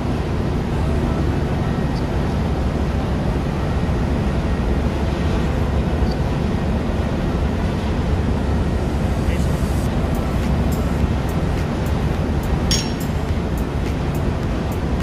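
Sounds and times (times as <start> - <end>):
engine-room machinery drone: 0.0 - 15.0.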